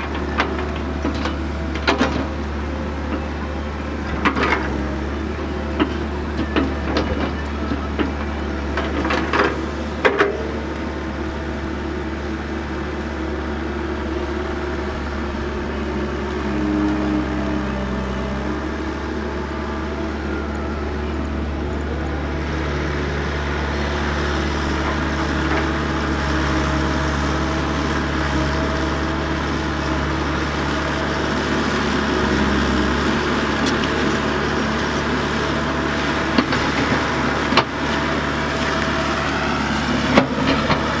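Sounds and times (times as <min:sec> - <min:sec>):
excavator diesel engine working: 0:00.0 - 0:41.0.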